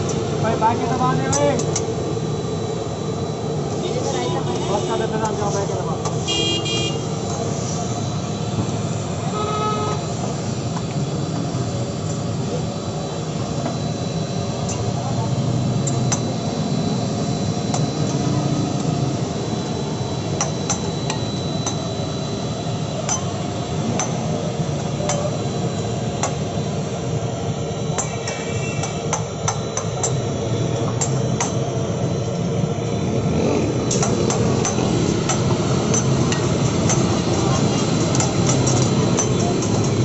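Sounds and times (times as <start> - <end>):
steady background din: 0.0 - 40.0.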